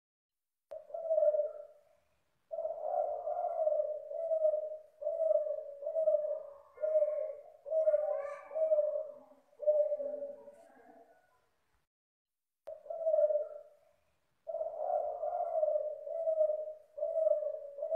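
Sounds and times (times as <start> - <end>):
dove cooing: 0.7 - 11.3, 12.7 - 13.8, 14.4 - 17.9.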